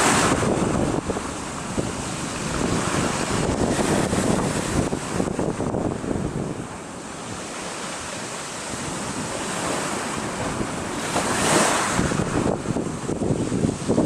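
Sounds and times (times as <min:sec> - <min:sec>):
sea surf washing onto beach: 0:00.0 - 0:14.0
wind buffeting microphone: 0:00.0 - 0:14.0.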